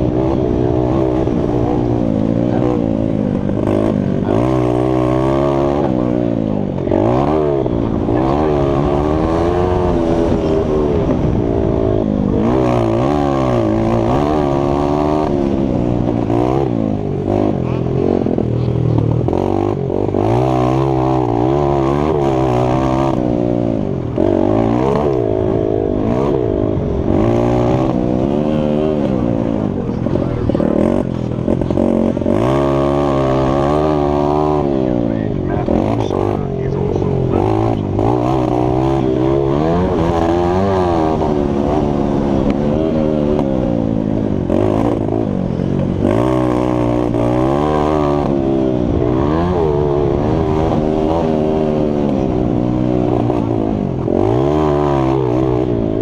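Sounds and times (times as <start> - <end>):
mini bike engine revving: 0.0 - 56.0.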